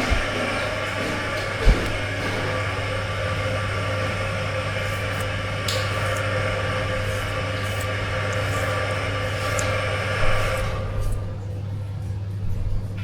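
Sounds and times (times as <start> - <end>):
electrical hum of machine: 0.0 - 13.0.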